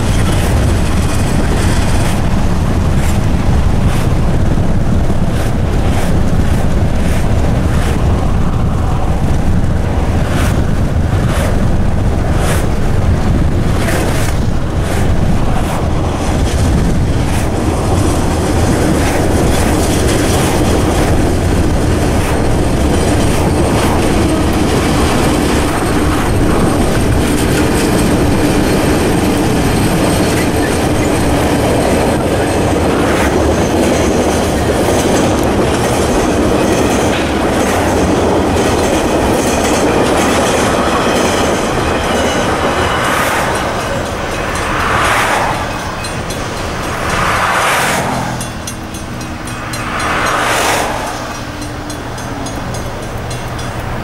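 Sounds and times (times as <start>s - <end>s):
freight train rolling past: 0.0s - 54.0s
train wheels clacking on rails: 0.0s - 54.0s
wind buffeting microphone: 0.0s - 54.0s.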